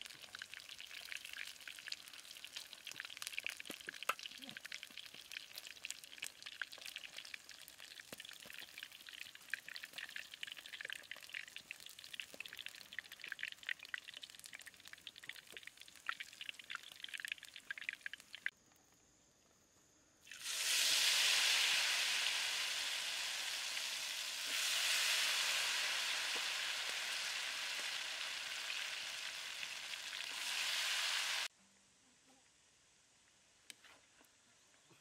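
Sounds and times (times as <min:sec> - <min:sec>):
chicken deep-frying in oil: 0:00.0 - 0:18.5, 0:20.2 - 0:31.5.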